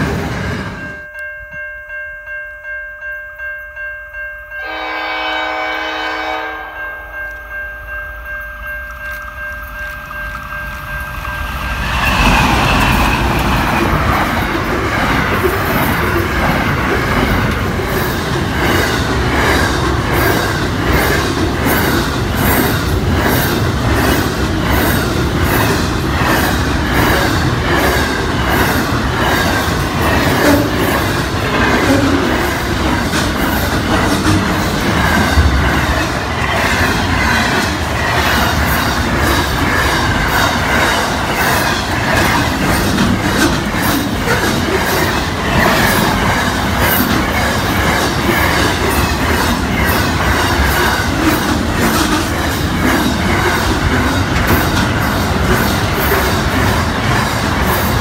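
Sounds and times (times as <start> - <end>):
train wheels rumbling on rails: 0.0 - 1.0, 7.1 - 58.0.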